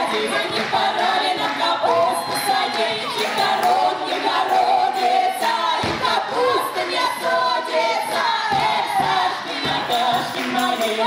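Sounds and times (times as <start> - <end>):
group singing folk song: 0.0 - 11.0.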